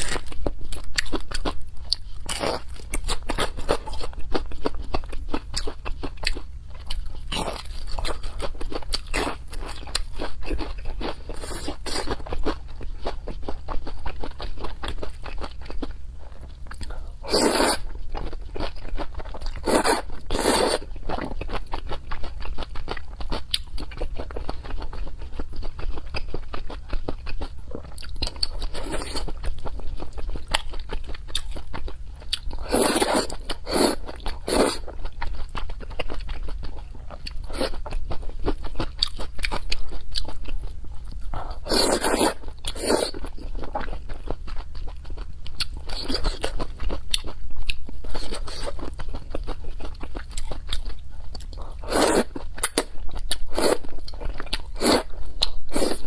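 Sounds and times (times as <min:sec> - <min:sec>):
person chewing noodles: 0:00.0 - 0:56.0.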